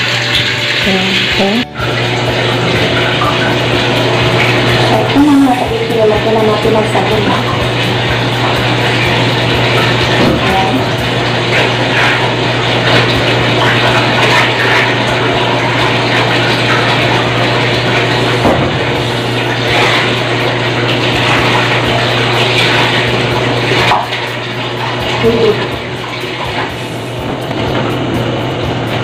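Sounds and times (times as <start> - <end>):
washing machine low hum: 0.0 - 29.0
water rushing into washing machine: 0.0 - 29.0.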